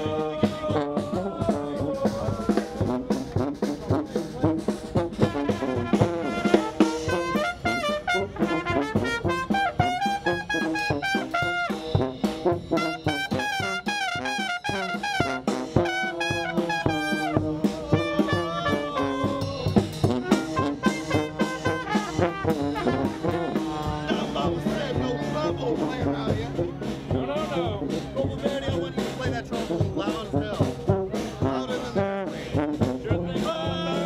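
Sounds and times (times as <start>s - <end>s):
brass band playing jazz: 0.0s - 34.0s
drum kit beat: 0.0s - 34.0s.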